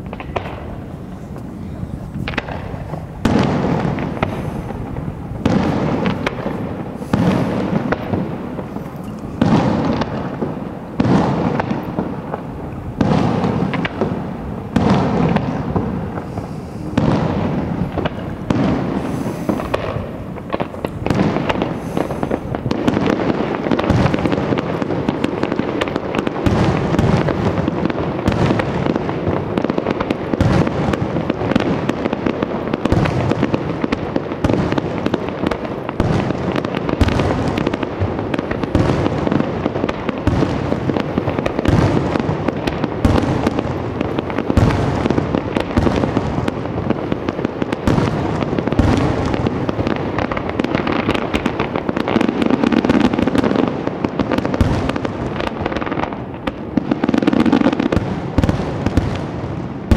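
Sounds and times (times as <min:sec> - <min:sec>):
firework shells bursting: 0:00.0 - 0:59.9.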